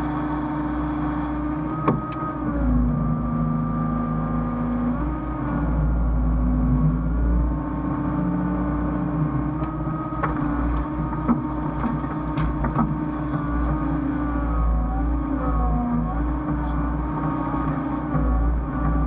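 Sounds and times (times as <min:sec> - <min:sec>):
diesel engine rumbling: 0:00.0 - 0:19.0
hydraulic whine: 0:00.0 - 0:19.0.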